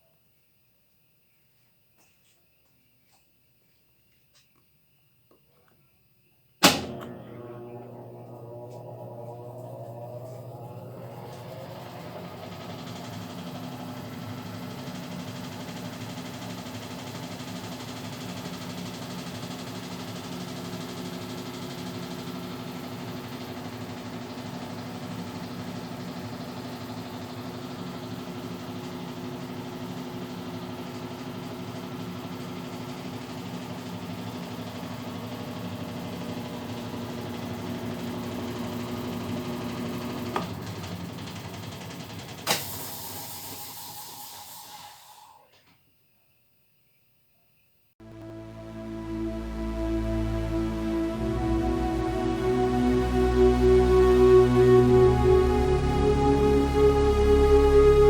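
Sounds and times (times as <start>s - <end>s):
washing machine motor humming: 6.6s - 45.4s, 48.0s - 58.0s.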